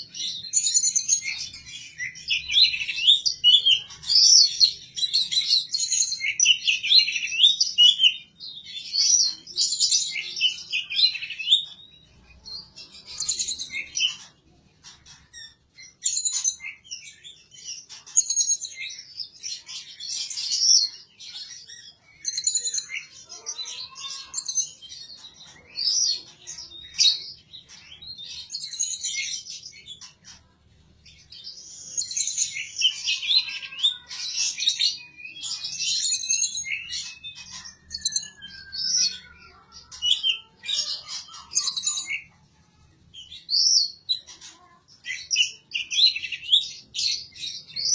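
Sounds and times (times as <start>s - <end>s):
songbird chirps and trills: 0.0s - 47.9s.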